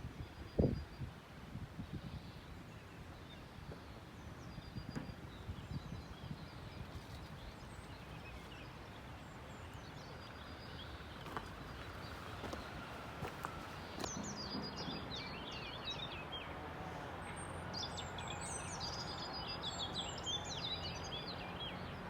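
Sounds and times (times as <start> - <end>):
outdoor background rush: 0.0 - 22.0
small birds chirping: 1.8 - 16.6, 17.2 - 22.0.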